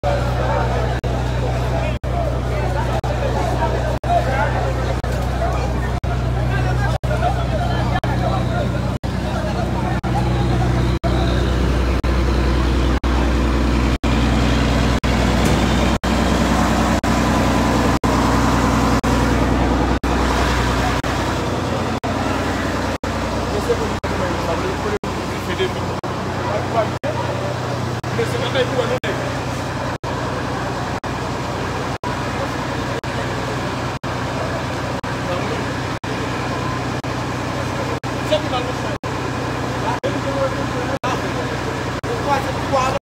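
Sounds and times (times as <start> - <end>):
large engine humming: 0.0 - 43.0.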